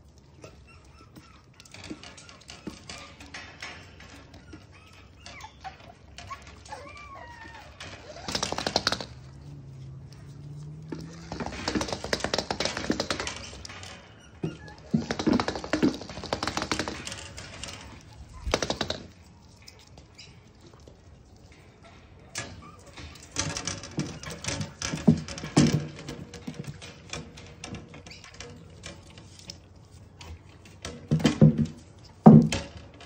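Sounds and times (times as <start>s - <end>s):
puppy claws clicking on floor: 0.0s - 33.0s.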